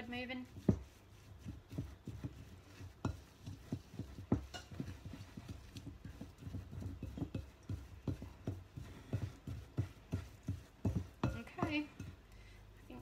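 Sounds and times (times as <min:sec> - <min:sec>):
dough knocking in glass bowl: 0:00.4 - 0:12.2.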